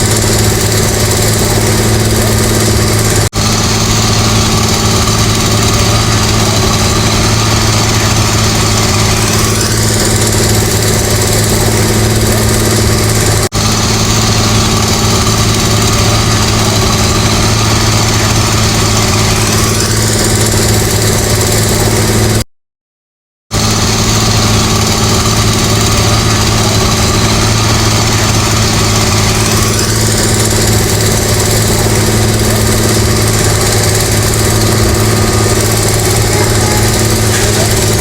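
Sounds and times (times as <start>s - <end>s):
construction machinery engine running: 0.0s - 22.5s, 23.5s - 38.0s.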